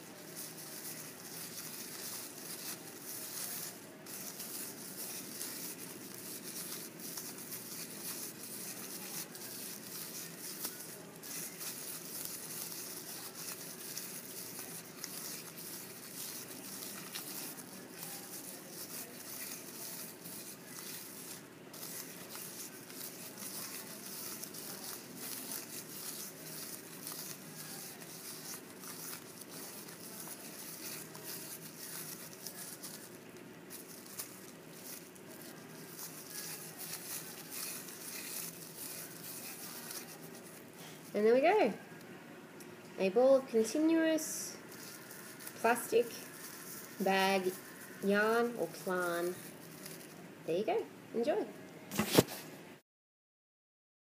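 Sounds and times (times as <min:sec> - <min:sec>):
plastic bag crinkling: 0:00.0 - 0:41.8, 0:43.6 - 0:50.3.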